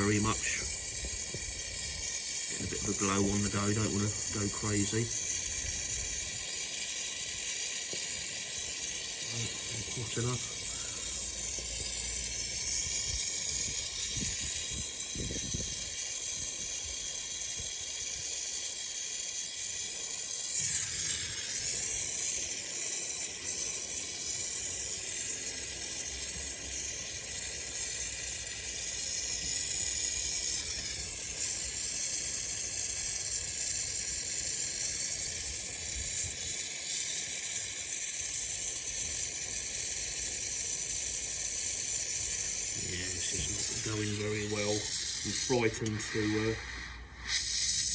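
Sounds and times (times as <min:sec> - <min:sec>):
gas torch flame hissing: 0:00.0 - 0:47.9.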